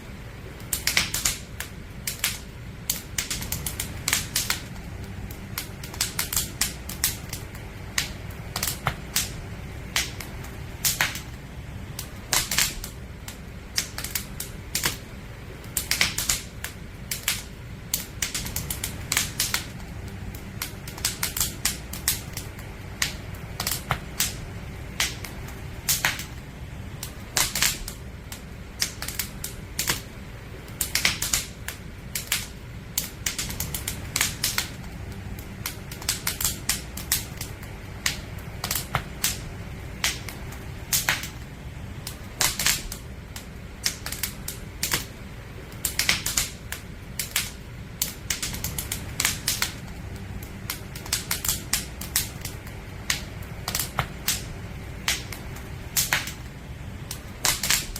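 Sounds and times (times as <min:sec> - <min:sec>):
low rumble of flames: 0:00.0 - 0:57.9
campfire crackling and popping: 0:00.1 - 0:57.9.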